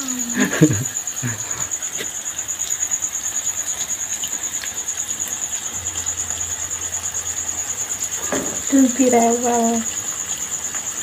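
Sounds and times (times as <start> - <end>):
oil sizzling in a wok: 0.0 - 11.0.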